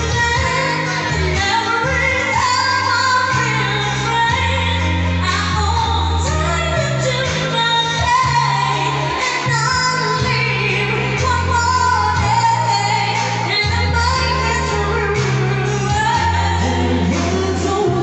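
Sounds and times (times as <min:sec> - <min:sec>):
backing music with bass notes: 0:00.0 - 0:18.0
woman singing pop ballad: 0:00.0 - 0:18.0.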